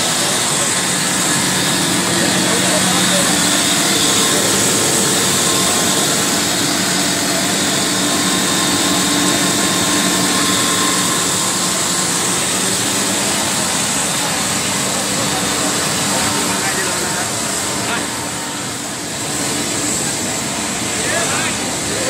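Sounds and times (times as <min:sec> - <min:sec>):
production machinery hiss and whine: 0:00.0 - 0:22.0.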